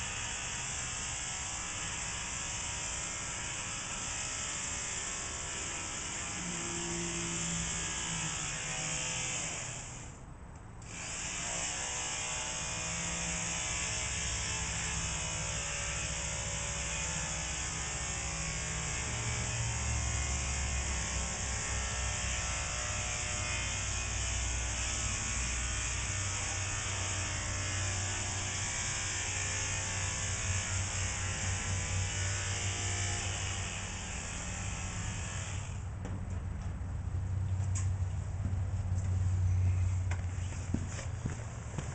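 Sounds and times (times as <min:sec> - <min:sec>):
electric clippers buzzing: 0:00.0 - 0:10.2, 0:10.8 - 0:36.0.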